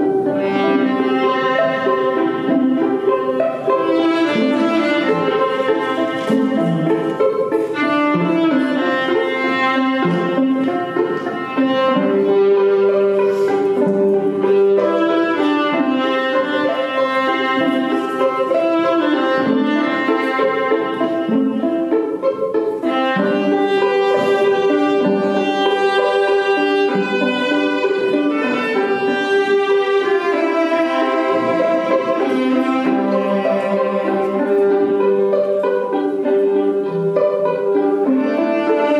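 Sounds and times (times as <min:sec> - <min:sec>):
lower string notes: 0:00.0 - 0:38.9
violin slow melody: 0:00.0 - 0:38.9.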